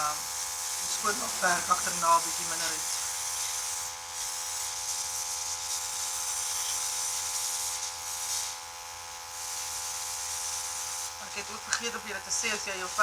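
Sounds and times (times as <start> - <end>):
airbrush compressor humming: 0.0 - 13.0
airbrush spraying hiss: 0.0 - 13.0.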